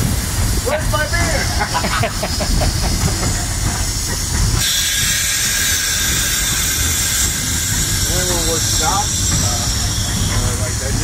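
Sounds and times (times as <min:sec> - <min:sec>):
loud steam hiss: 0:00.0 - 0:11.0.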